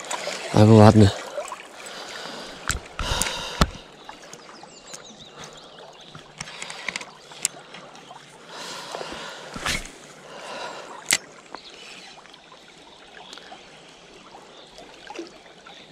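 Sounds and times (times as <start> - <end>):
river water lapping: 0.0 - 15.9.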